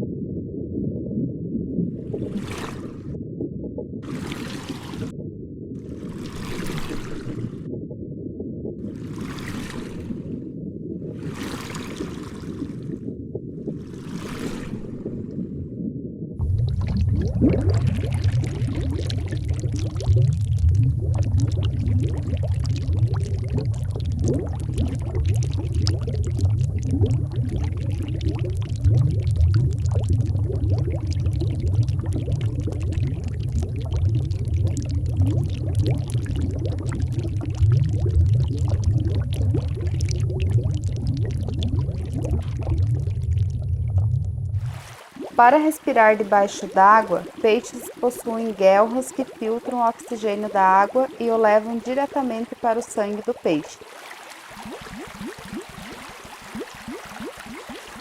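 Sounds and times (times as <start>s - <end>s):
deep water rumble: 0.0s - 58.0s
underwater bubbles gurgling: 0.0s - 58.0s.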